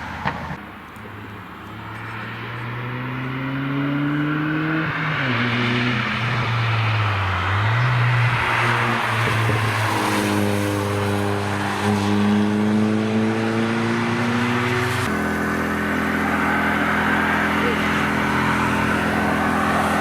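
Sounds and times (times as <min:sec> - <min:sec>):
car engine accelerating past: 0:01.8 - 0:20.0.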